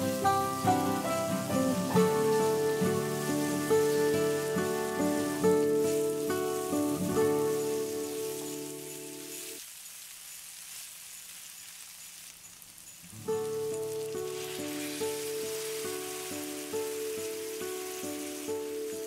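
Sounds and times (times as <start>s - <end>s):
plucked guitar music: 0.0s - 9.6s, 13.2s - 19.0s
onions sizzling in a wok: 0.0s - 19.0s
puree being poured: 0.0s - 19.0s.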